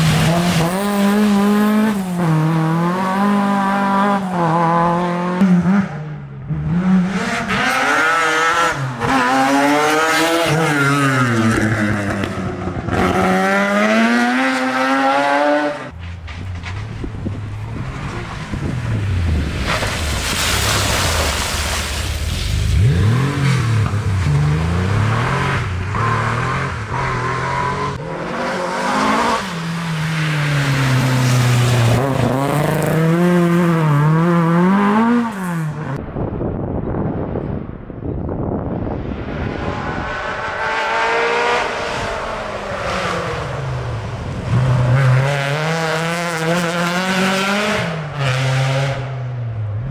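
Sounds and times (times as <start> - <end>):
rushing tyre and spray noise: 0.0 - 5.8, 7.2 - 49.9
rally car engines revving: 0.0 - 36.0, 38.7 - 49.9.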